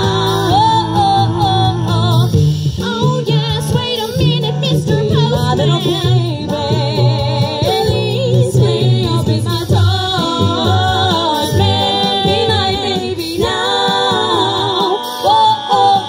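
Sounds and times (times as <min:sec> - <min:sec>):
low bass notes: 0:00.0 - 0:16.0
vocal group singing in harmony: 0:00.0 - 0:16.0.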